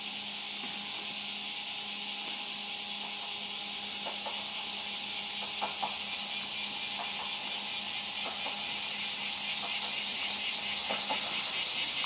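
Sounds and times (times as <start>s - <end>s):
cicada chorus hissing: 0.0s - 12.0s
faint railcar engine hum: 0.0s - 12.0s.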